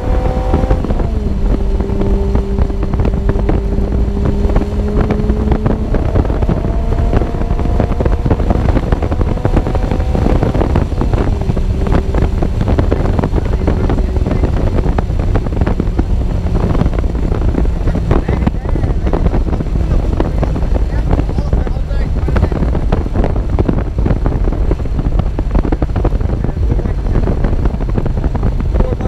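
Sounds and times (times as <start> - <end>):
car engine running at speed: 0.0 - 29.0
wind buffeting microphone: 0.0 - 29.0.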